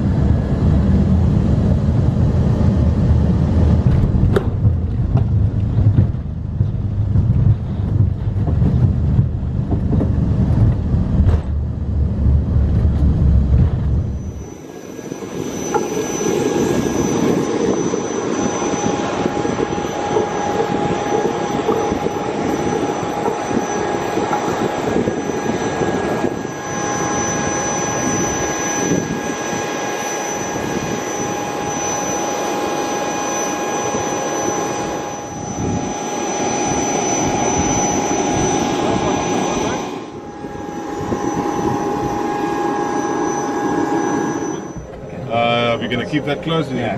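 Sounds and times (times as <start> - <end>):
airliner landing roll rumble: 0.0 - 46.9
jet engines whining: 0.0 - 46.9.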